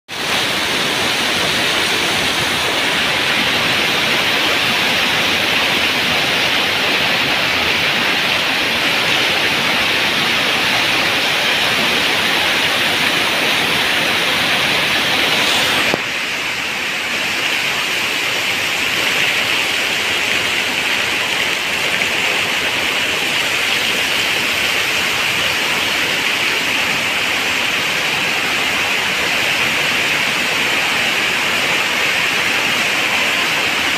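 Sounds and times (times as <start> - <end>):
heavy rain on water: 0.1 - 33.9.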